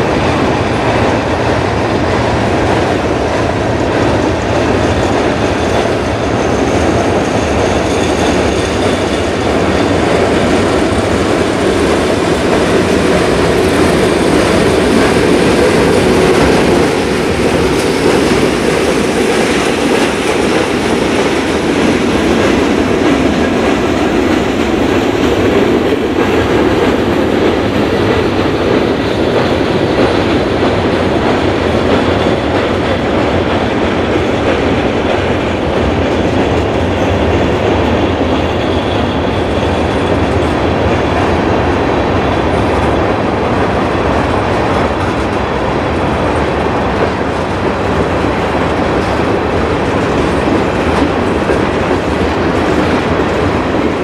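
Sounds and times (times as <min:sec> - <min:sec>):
train wheels rumbling on rails: 0:00.0 - 0:54.0
wheels clacking over rail joints: 0:00.0 - 0:54.0.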